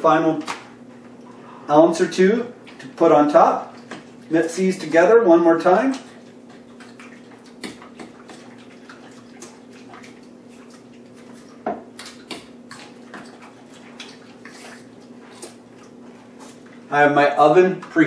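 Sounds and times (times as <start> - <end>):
steady low hum: 0.0 - 18.0
wet mixture squishing when stirred: 2.1 - 18.0.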